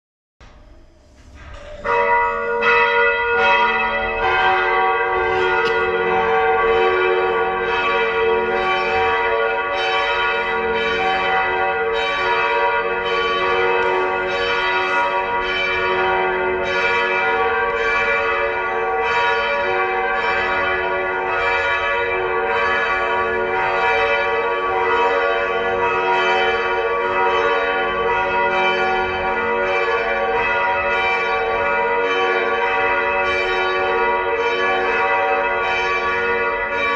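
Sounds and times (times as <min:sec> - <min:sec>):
church bells pealing: 0:01.4 - 0:36.9.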